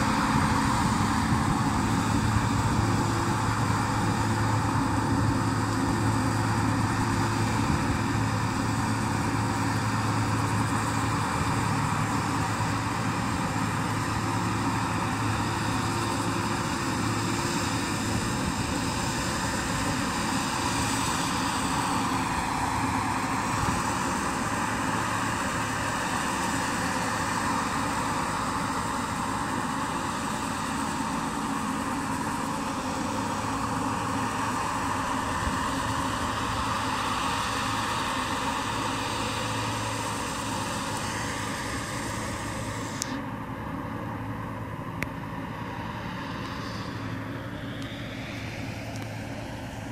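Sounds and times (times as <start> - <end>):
combine harvester engine humming: 0.0 - 49.9
machinery whine: 0.0 - 49.9.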